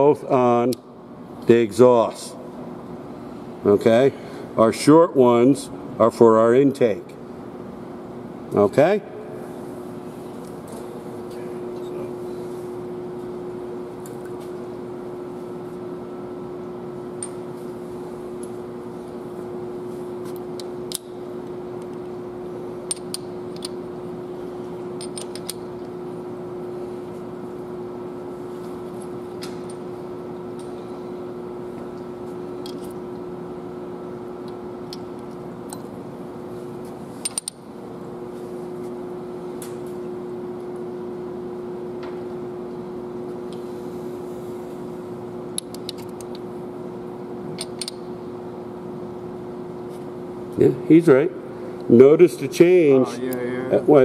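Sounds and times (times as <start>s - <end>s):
steady hum with held tone: 0.0s - 54.0s.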